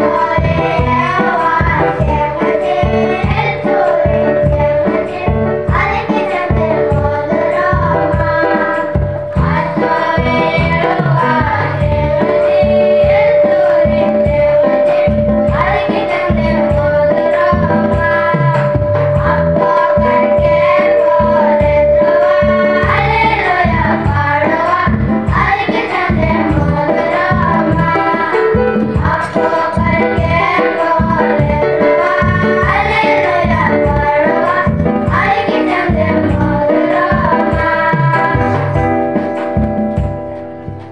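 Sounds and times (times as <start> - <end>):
boys singing together: 0.0 - 38.8
held keyboard tone: 0.0 - 40.9
instrumental accompaniment with beat: 0.0 - 40.9.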